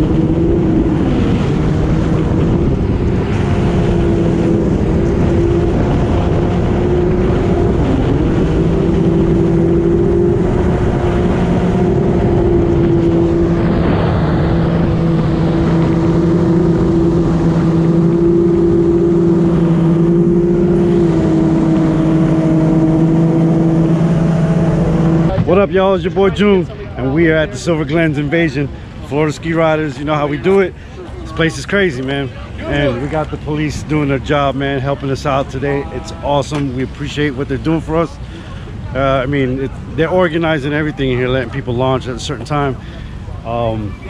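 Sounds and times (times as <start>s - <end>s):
jet ski engine running: 0.0s - 44.0s
wind and water rushing: 0.0s - 44.0s.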